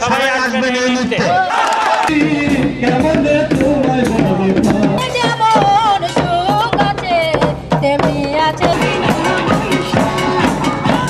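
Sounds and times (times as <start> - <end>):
wavering melody over drum beat: 2.1 - 11.0.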